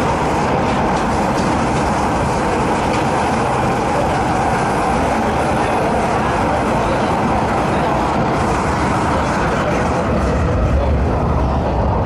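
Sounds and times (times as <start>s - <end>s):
train rumbling from inside carriage: 0.0s - 12.0s.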